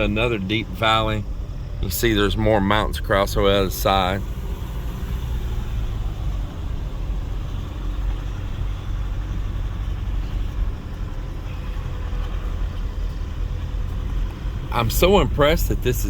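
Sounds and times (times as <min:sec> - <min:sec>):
engine rumbling under load: 0:00.0 - 0:16.0
road noise: 0:00.0 - 0:16.0.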